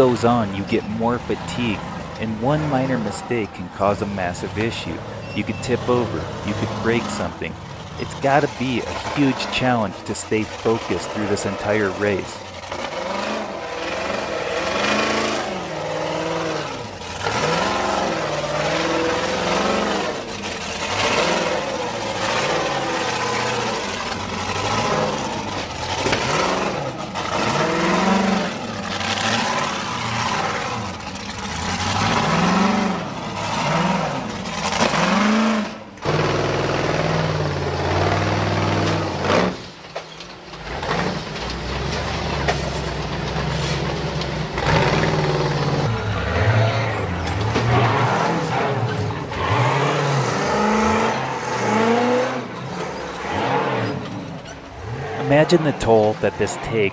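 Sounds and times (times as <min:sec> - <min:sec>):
car engine running steadily: 0:00.0 - 0:56.9
racing car engine revving: 0:00.0 - 0:56.9.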